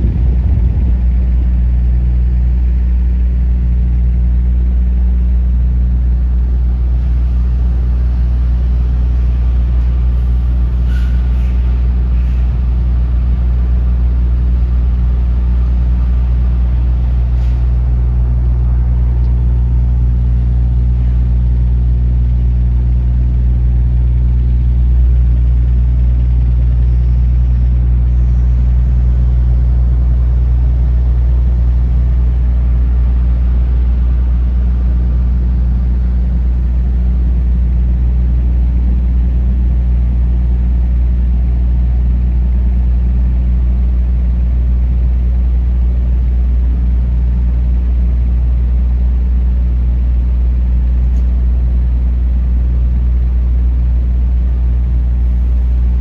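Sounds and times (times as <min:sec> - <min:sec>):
large engine idling: 0:00.0 - 0:56.0.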